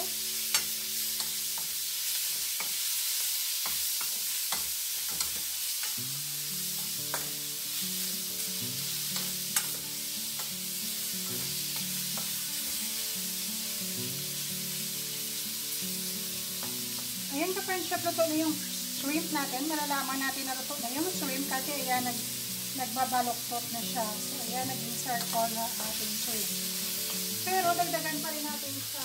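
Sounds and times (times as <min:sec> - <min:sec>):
shrimp sizzling in hot oil: 0:00.0 - 0:29.0.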